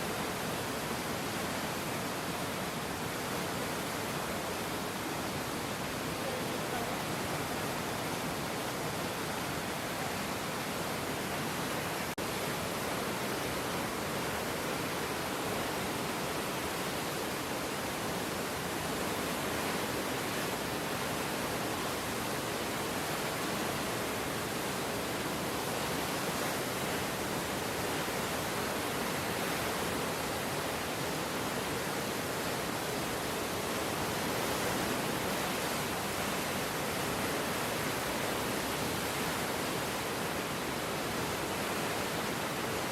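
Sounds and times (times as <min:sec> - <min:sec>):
floodwater rushing in a river: 0:00.0 - 0:42.9.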